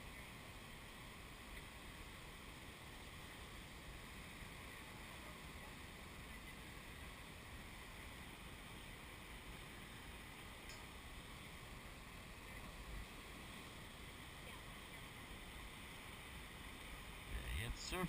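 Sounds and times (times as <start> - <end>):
distant ocean surf breaking: 0.0 - 18.0.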